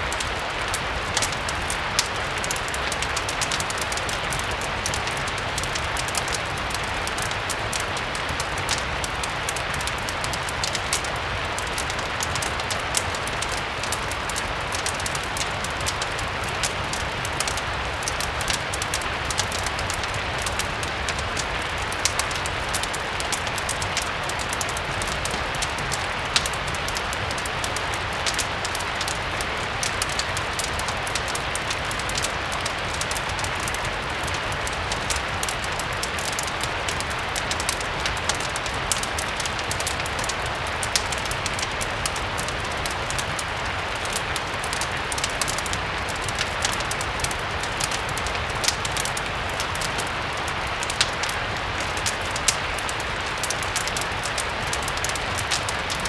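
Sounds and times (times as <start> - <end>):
crackling fireplace: 0.0 - 56.0
steady rain: 0.0 - 56.0.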